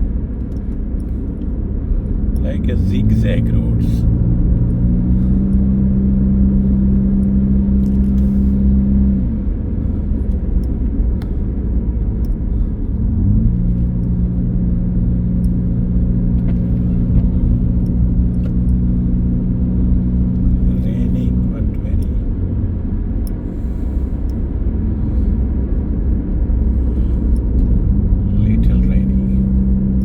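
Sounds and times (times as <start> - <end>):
car engine hum: 0.0 - 30.0
road rumble: 0.0 - 30.0.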